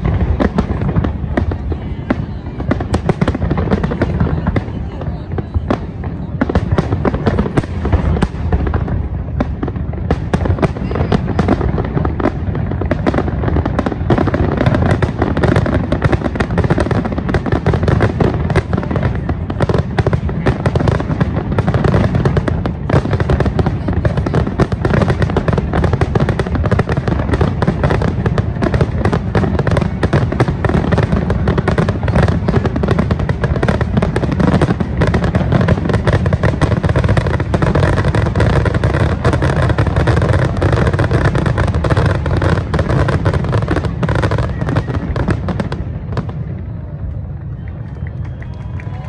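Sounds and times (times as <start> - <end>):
firework bursts and crackles: 0.0 - 49.0.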